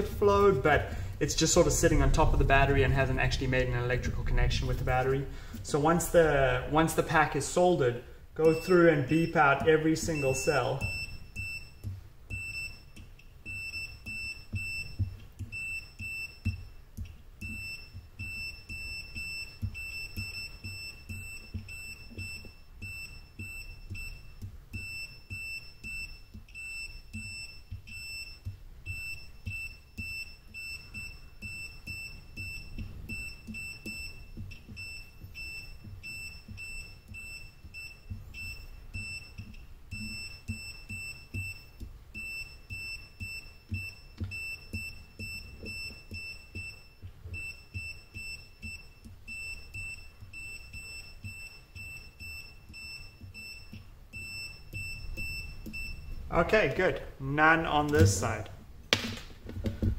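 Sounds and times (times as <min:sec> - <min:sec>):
probe tapping on cells: 0:00.0 - 0:07.7, 0:08.3 - 0:59.9
multimeter continuity beeps: 0:00.0 - 0:58.6.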